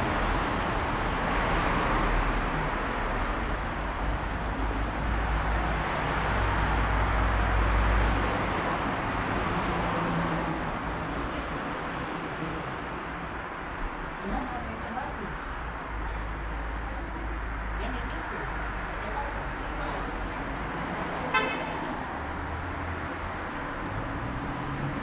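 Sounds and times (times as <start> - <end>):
passing cars: 0.0 - 25.0.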